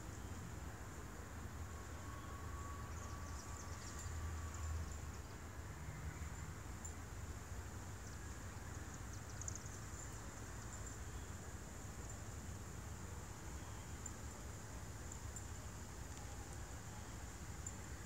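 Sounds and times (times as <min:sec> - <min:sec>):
high insect drone: 0:00.9 - 0:18.0.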